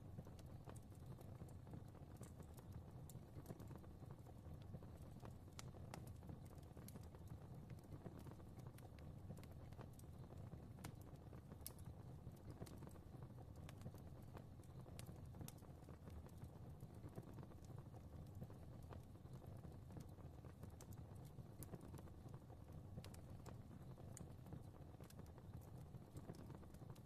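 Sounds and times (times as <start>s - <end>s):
fire crackling: 0.0s - 27.0s
low rumble of flames: 0.0s - 27.0s.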